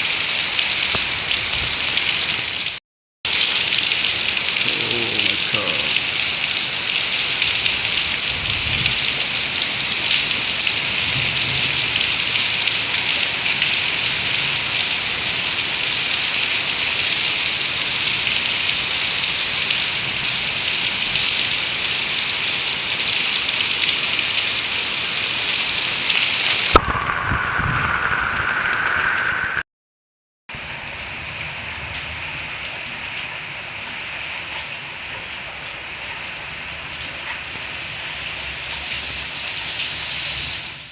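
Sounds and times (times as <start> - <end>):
heavy rain pouring: 0.0 - 29.6, 30.6 - 40.9.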